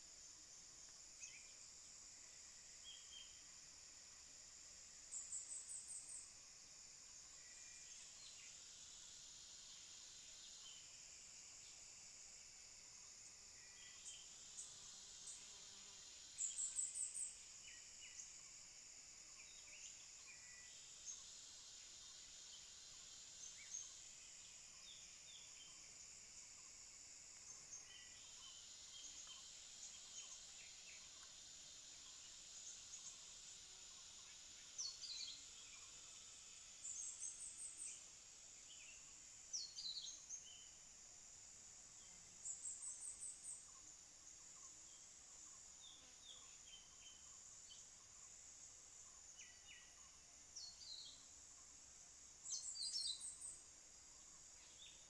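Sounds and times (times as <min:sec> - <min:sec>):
high-pitched insect buzz: 0:00.0 - 0:55.0.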